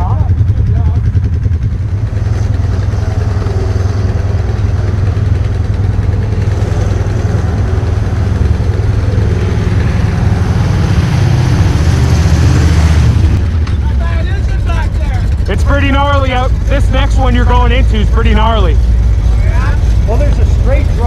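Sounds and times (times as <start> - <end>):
atv engines running: 0.0 - 21.0.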